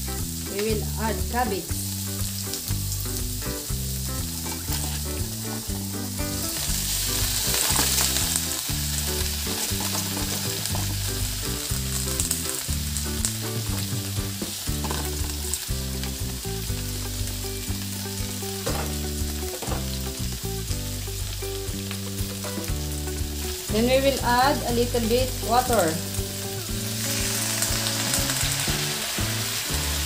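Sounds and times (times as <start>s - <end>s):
low background music: 0.0s - 30.0s
vegetables sizzling in wok: 0.0s - 30.0s.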